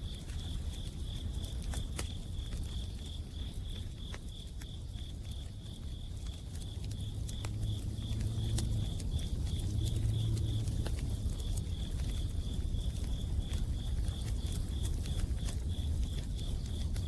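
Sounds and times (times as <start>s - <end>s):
campfire crackling and popping: 0.0s - 17.0s
cricket chirping: 0.0s - 17.0s.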